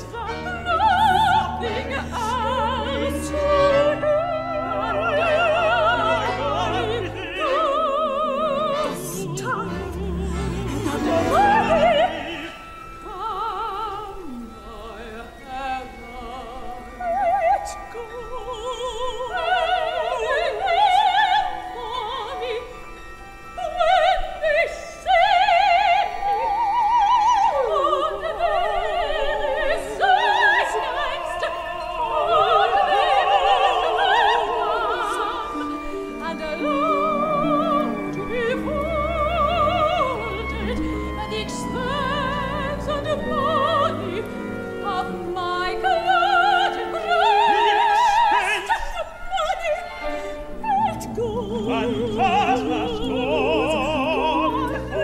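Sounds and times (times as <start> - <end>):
woman singing opera: 0.0 - 55.0.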